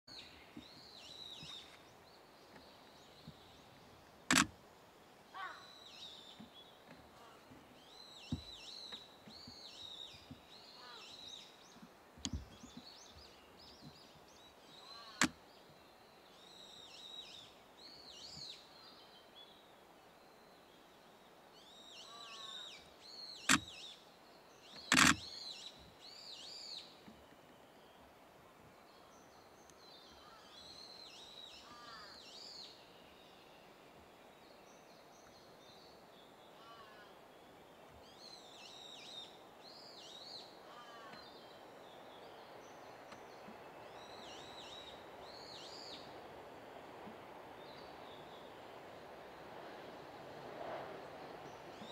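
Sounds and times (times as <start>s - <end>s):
faint background hiss: 0.1s - 51.9s
songbirds singing: 0.1s - 51.9s.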